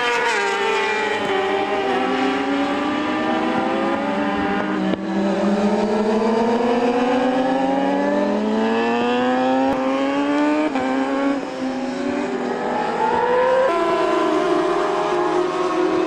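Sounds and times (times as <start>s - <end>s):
racing motorcycle engine accelerating: 0.0s - 16.0s.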